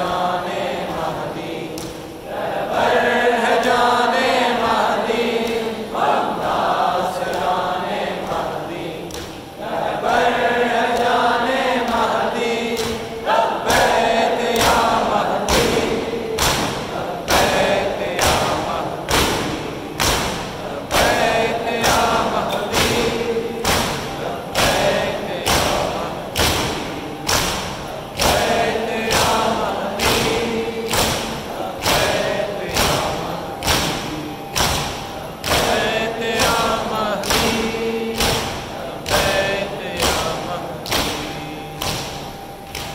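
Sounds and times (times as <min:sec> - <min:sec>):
men chanting in unison: 0:00.0 - 0:42.9
rhythmic chest-beating slaps: 0:00.0 - 0:42.9.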